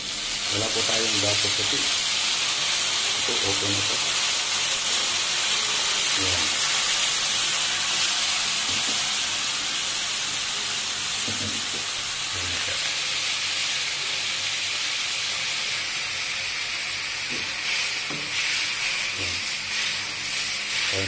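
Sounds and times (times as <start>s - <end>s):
sauce sizzling in a hot wok: 0.0s - 21.0s.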